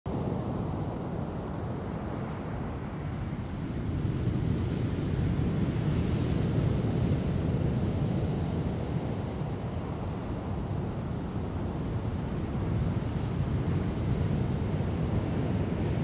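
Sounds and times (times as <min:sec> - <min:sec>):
wind buffeting microphone: 0:00.1 - 0:16.0.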